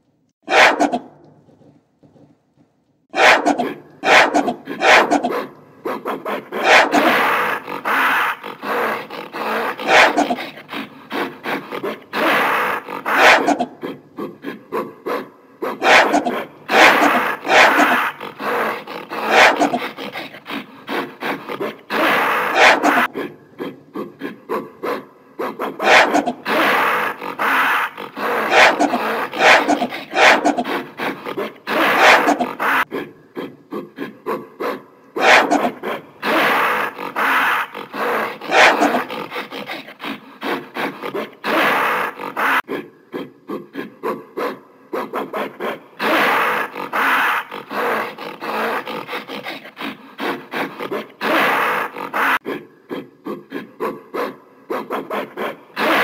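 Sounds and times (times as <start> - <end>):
gorilla vocalising in rough bursts: 0.4 - 2.3, 3.1 - 52.6, 53.3 - 56.0.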